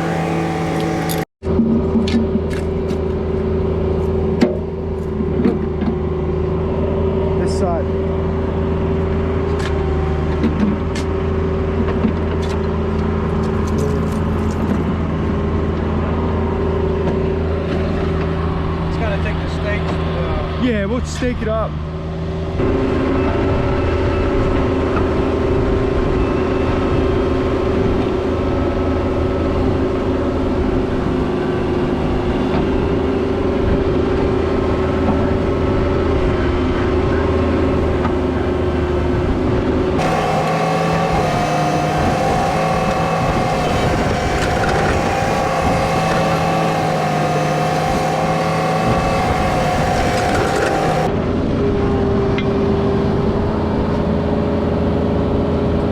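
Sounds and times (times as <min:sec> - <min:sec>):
diesel excavator engine running: 0:00.0 - 0:20.5, 0:21.9 - 0:55.9.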